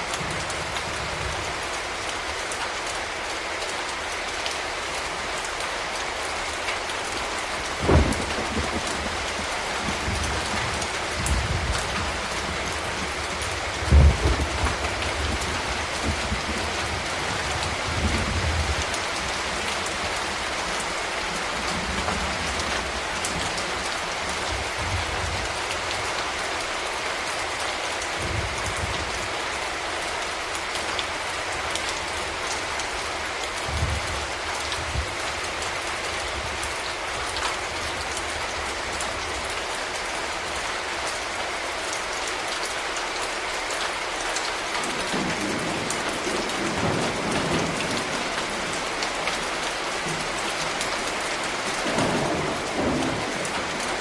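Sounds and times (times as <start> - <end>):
raindrops ticking on surfaces: 0.0 - 54.0
steady rain falling: 0.0 - 54.0.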